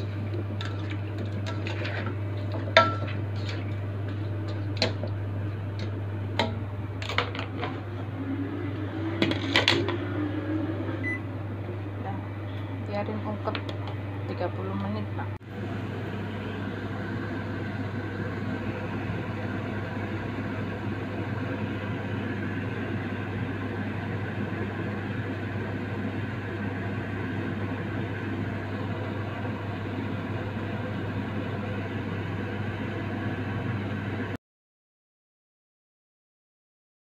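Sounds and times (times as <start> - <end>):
motor humming and whirring: 0.0 - 34.3.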